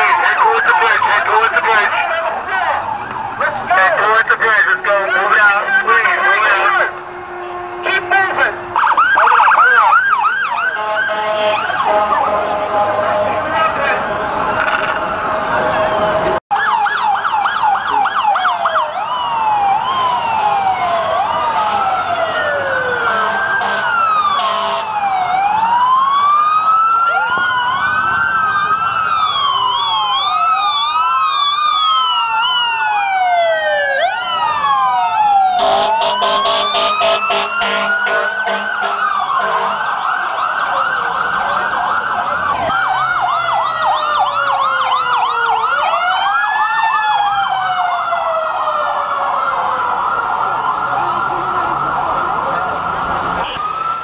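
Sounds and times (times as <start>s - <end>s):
wailing and yelping sirens: 0.0s - 54.0s.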